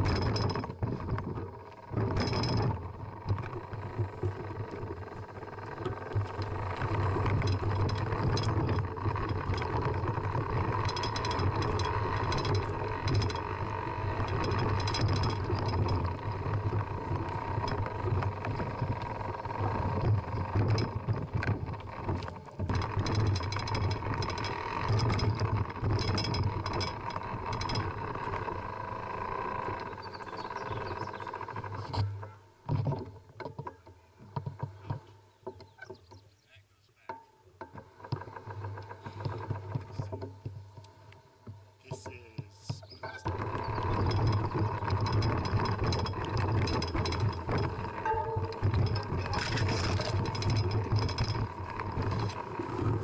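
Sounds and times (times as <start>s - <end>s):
bike tyres rumbling on trail: 0.0s - 32.8s, 42.8s - 53.0s
bike rattles and knocks: 0.0s - 36.3s, 37.0s - 53.0s.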